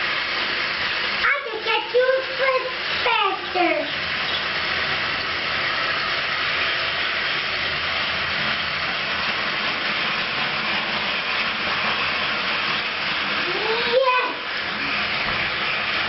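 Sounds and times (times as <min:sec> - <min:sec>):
toy train motor whirring: 0:00.0 - 0:16.0.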